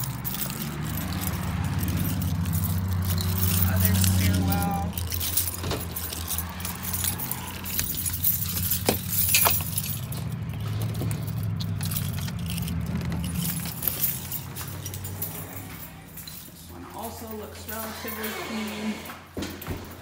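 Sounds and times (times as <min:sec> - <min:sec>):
keys jangling: 0:00.0 - 0:20.0.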